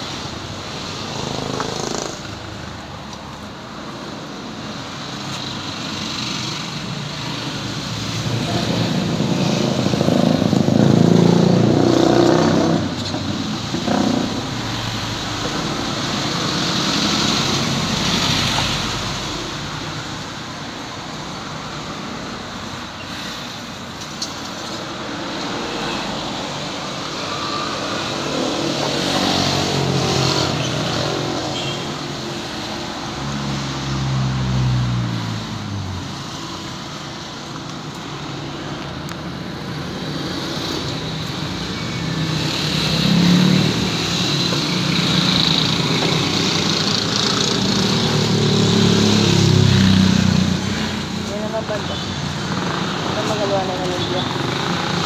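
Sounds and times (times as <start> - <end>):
cars and motorcycles passing: 0.0 - 55.0.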